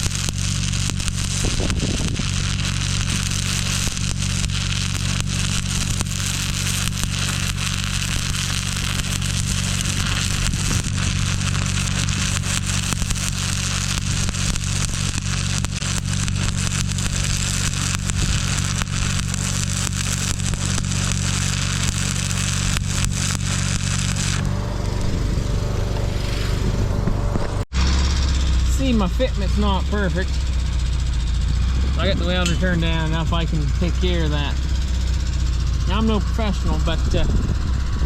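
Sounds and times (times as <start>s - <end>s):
steady low hum: 0.0s - 38.0s
welding arc crackling: 0.0s - 38.0s.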